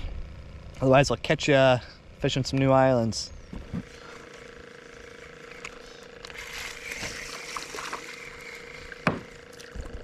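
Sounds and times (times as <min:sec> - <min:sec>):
small boat motor humming: 0:00.0 - 0:10.0.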